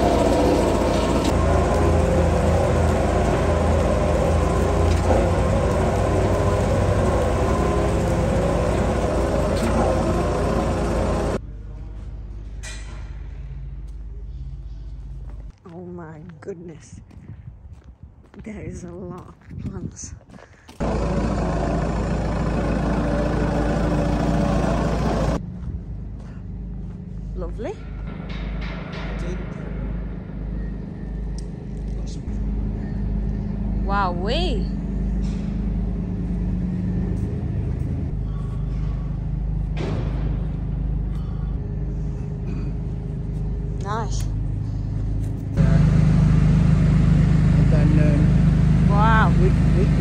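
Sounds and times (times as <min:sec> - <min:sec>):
wheel loader engine rumbling: 0:00.0 - 0:11.8, 0:20.7 - 0:50.0
low hum: 0:00.0 - 0:16.5, 0:20.8 - 0:50.0.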